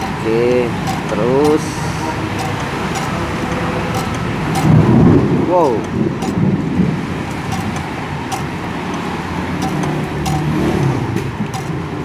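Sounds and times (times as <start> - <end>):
wrench clicking: 0.0 - 4.8, 5.6 - 6.4, 7.5 - 11.8.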